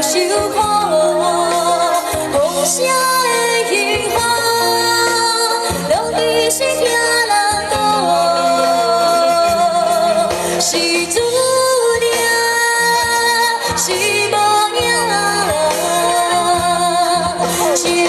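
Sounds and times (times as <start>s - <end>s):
live band playing pop song: 0.0s - 18.0s
woman singing: 0.0s - 18.0s.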